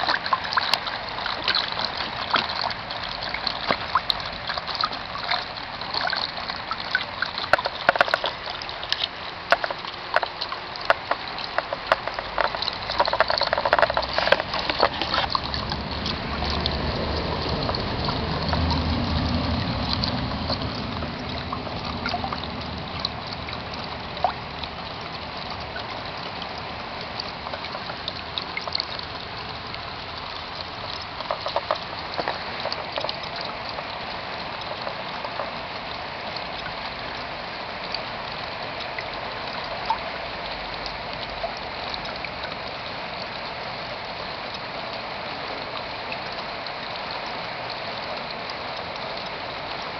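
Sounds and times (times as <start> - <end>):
rainwater dripping: 0.0 - 49.9
running water rushing: 0.0 - 49.9.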